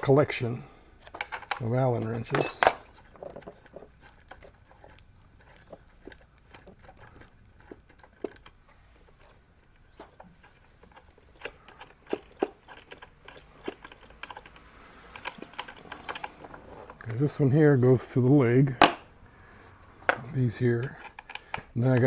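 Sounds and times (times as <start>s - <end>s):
metal wrenches clinking: 1.0s - 17.8s, 18.6s - 19.2s, 20.0s - 22.0s.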